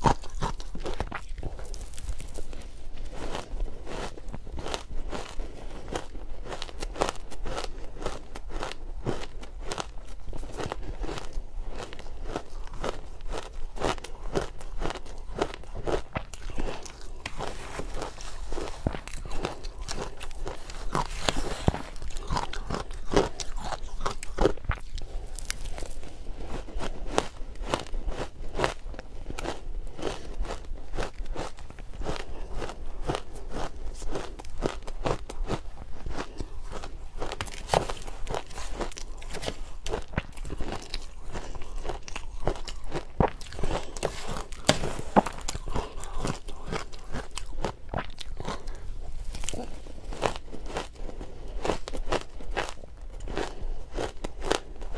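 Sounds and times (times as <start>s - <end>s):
crunching and chewing shaved ice: 0.0s - 54.9s.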